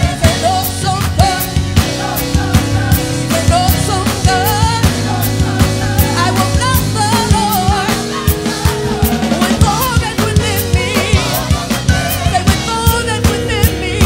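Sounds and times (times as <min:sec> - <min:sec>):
backing singers: 0:00.0 - 0:14.0
lead singer's ornamented vocal: 0:00.0 - 0:14.0
steady drum beat: 0:00.0 - 0:14.0
sustained bass notes: 0:00.0 - 0:14.0.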